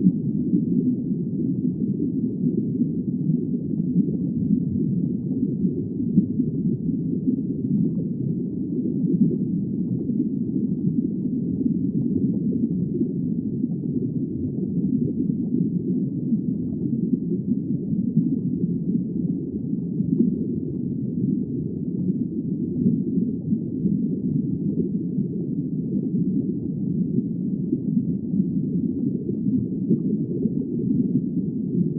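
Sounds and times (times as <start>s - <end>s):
muffled underwater rumble: 0.0s - 31.9s.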